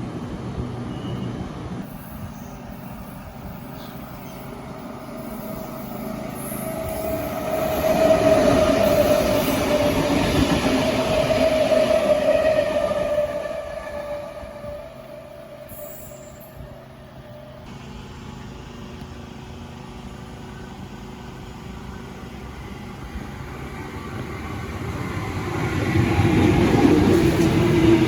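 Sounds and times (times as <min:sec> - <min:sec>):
electric train passing on rails: 0:00.0 - 0:28.0
high train squeal: 0:00.8 - 0:17.7, 0:20.2 - 0:28.0.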